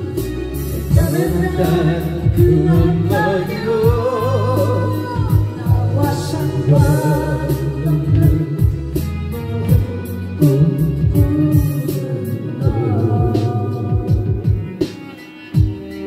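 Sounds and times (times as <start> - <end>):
man singing into microphone: 0.0 - 14.9
karaoke backing track with beat: 0.0 - 16.0.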